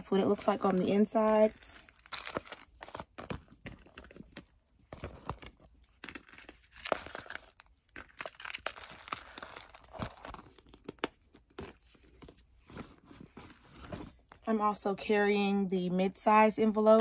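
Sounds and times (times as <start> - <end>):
paper and plastic crinkling: 0.0 - 14.4.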